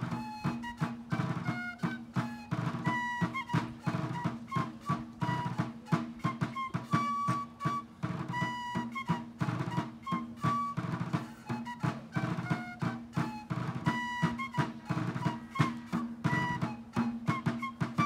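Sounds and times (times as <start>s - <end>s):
field drum marching rhythm: 0.0s - 18.0s
high wind instrument tune: 0.0s - 18.0s.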